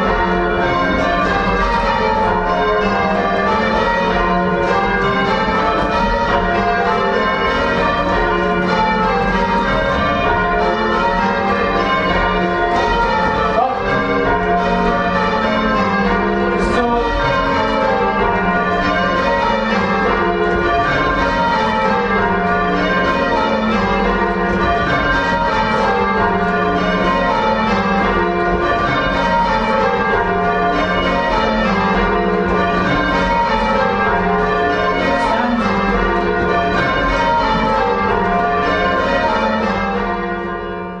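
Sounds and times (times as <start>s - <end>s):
church bells change ringing: 0.0s - 41.0s.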